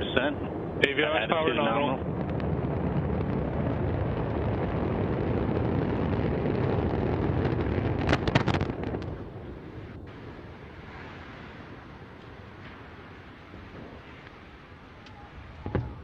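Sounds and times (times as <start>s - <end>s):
rocket engines rumbling: 0.0s - 16.0s
rocket explosion cracks: 0.0s - 16.0s.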